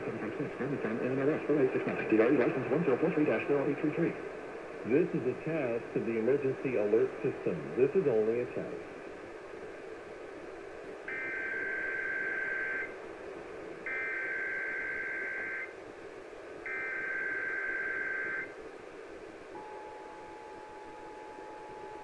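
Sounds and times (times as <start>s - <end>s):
radio hiss: 0.0s - 22.0s.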